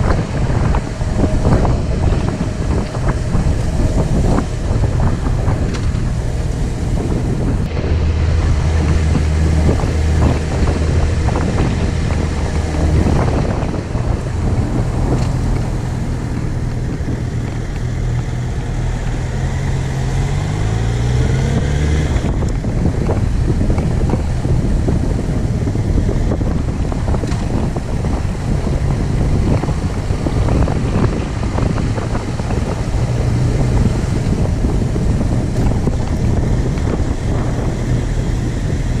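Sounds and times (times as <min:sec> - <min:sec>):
engine running: 0:00.0 - 0:39.0
wind noise on microphone: 0:00.0 - 0:39.0.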